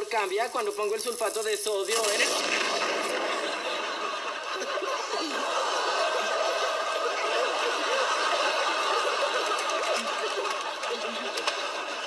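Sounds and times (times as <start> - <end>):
studio audience laughing: 1.9 - 12.0.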